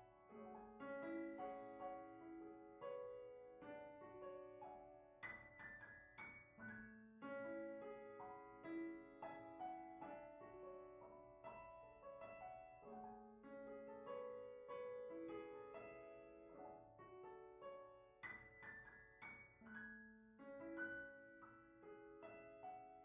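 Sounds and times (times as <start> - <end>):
slow soft piano music: 0.0 - 23.0.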